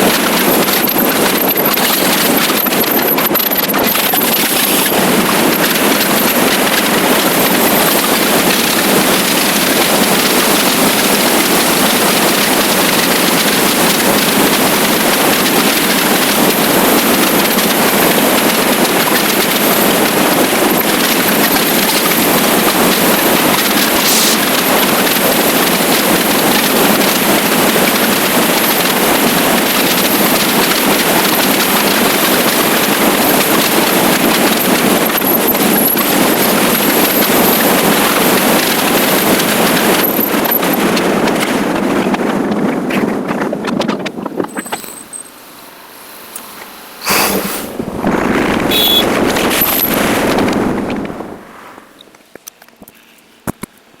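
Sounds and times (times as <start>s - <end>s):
motorcycle engine running: 0.0s - 51.5s
wind and road noise: 0.0s - 54.0s.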